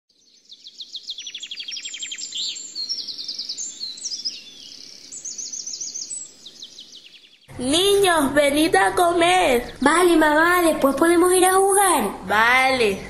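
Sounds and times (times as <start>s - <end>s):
songbirds singing: 0.1s - 13.0s.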